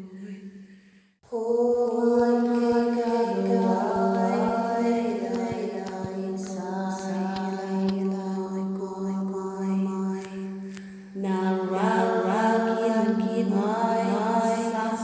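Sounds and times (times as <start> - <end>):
wordless chanted singing: 0.0 - 15.0.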